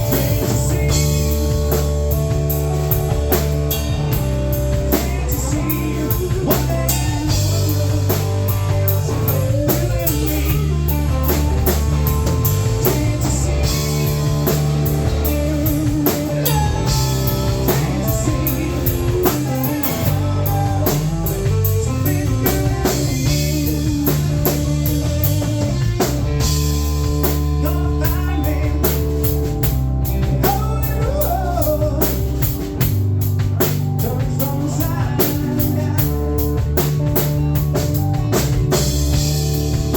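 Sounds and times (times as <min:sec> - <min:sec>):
bass line: 0:00.0 - 0:39.9
drum kit beat: 0:00.0 - 0:39.9
guitar: 0:00.0 - 0:39.9.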